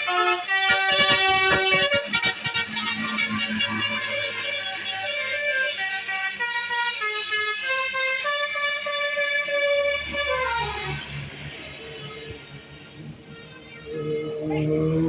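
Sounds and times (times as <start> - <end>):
bus multi-tone air horn melody: 0.0 - 14.4.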